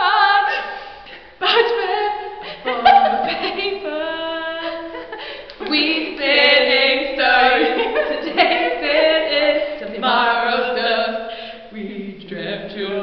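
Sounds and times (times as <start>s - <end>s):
woman singing unaccompanied: 1.4s - 5.0s, 5.6s - 13.0s.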